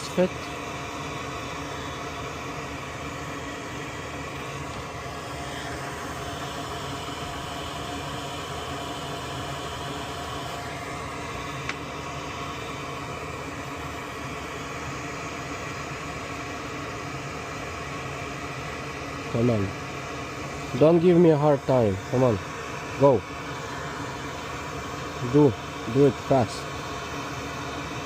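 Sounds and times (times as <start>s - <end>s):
electric blower humming: 0.0s - 28.0s.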